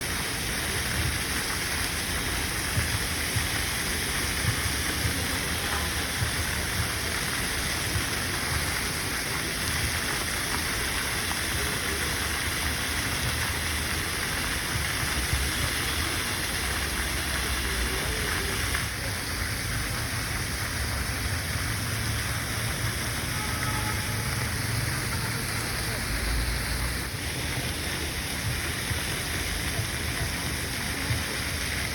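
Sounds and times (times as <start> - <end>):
fountain water splashing: 0.0 - 31.9.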